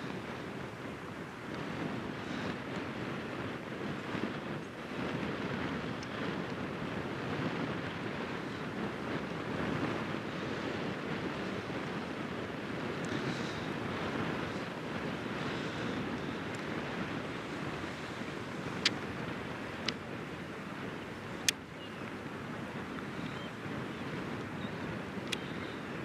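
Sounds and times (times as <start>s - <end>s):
rushing wind: 0.0s - 26.0s
wind buffeting microphone: 0.0s - 26.0s.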